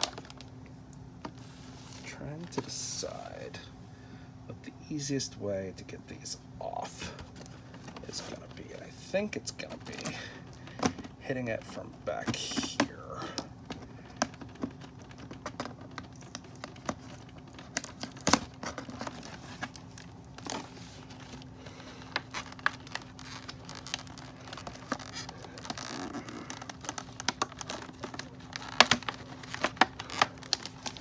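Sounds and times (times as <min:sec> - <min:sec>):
packaging rustling and crinkling: 0:00.0 - 0:03.4, 0:06.6 - 0:31.0.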